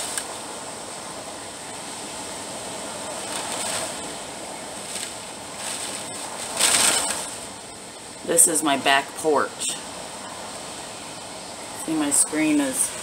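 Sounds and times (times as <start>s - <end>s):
strong wind heard from indoors: 0.0s - 13.0s.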